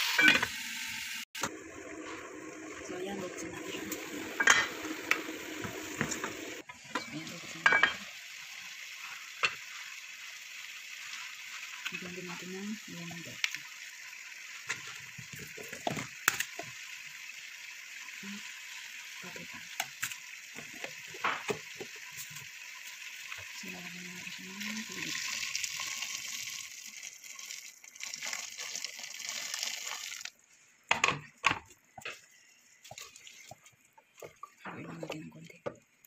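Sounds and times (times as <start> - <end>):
chicken sizzling in oil: 0.0 - 30.4.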